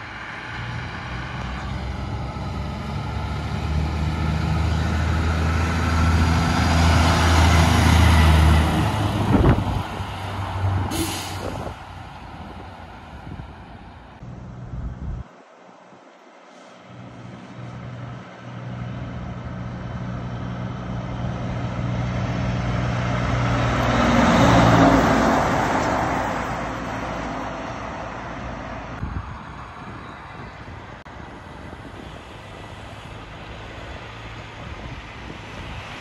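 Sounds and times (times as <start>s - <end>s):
truck diesel engine passing: 0.0s - 36.0s.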